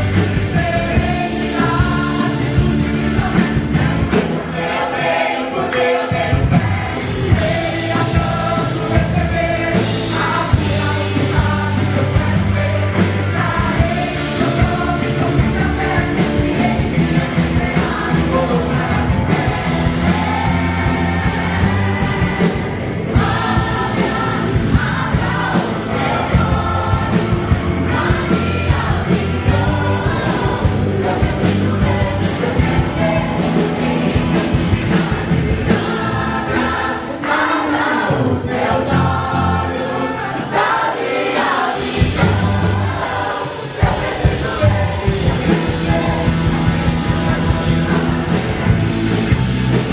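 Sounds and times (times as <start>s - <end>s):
band with bass and drums: 0.0s - 49.9s
vocal group singing: 0.0s - 49.9s.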